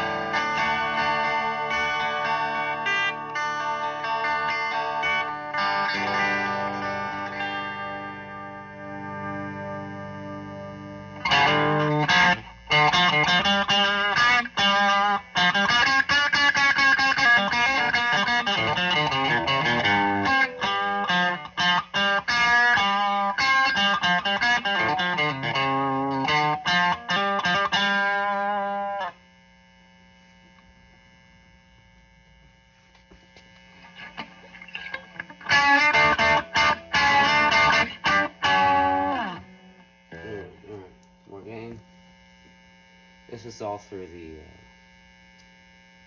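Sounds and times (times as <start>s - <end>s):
amplifier hum: 0.0s - 46.0s
distorted electric guitar: 0.0s - 46.0s.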